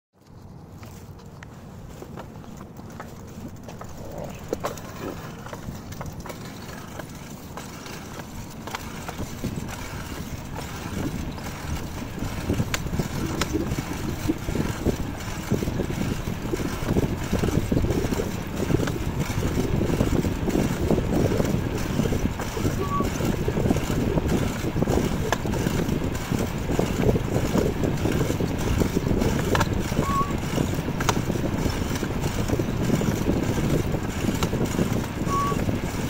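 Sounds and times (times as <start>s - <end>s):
bike rattling over pavement: 0.2s - 36.0s
wind rushing over microphone: 3.1s - 36.0s.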